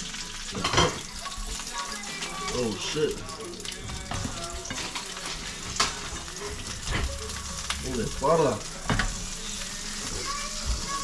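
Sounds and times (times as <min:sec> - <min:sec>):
seafood sizzling in a frying pan: 0:00.0 - 0:11.0.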